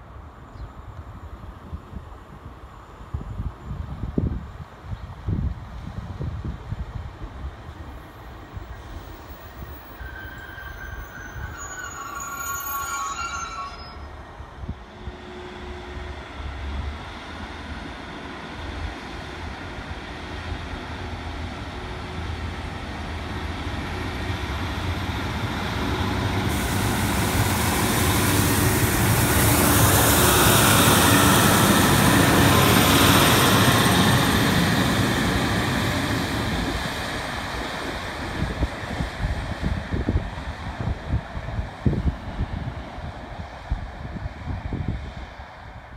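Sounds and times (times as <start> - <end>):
train wheels on rails: 5.6 - 45.9
diesel train engine: 7.4 - 45.9.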